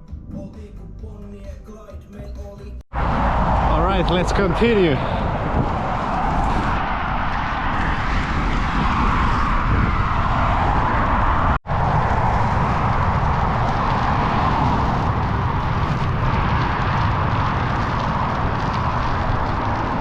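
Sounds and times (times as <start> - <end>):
wind rush over microphone: 2.9 - 20.0.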